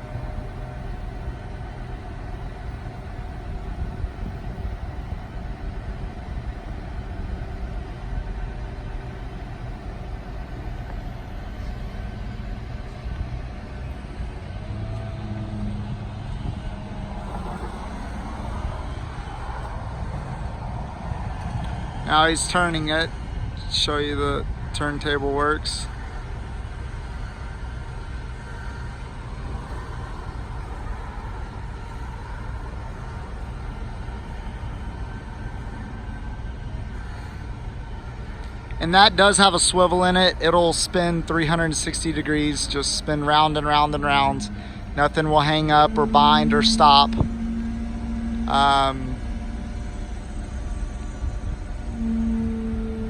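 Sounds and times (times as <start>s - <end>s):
truck engine running: 0.0s - 53.0s.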